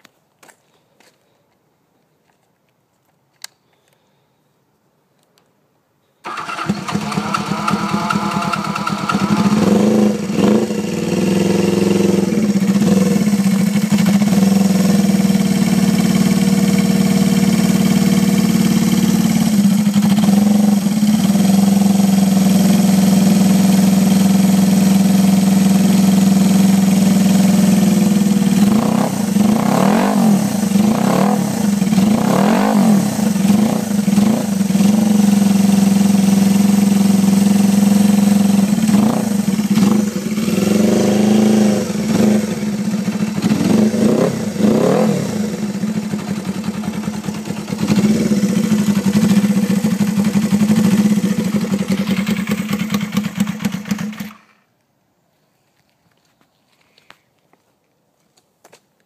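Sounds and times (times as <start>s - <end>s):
motorcycle engine idling and revving: 6.3s - 54.6s.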